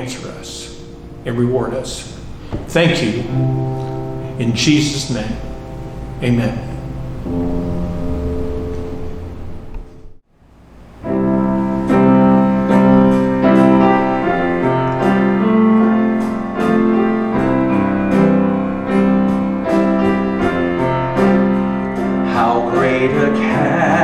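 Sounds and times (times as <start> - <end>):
held low piano chord: 0.0 - 24.0
slow chordal piano: 0.0 - 24.0.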